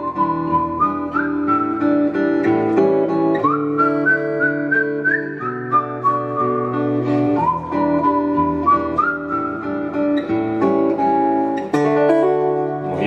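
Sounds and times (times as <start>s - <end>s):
acoustic guitar chords: 0.0s - 13.0s
high wordless melody: 0.0s - 13.0s.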